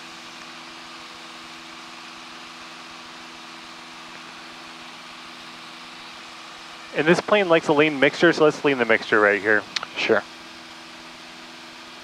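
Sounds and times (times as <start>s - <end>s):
airplane engine drone: 0.0s - 12.0s.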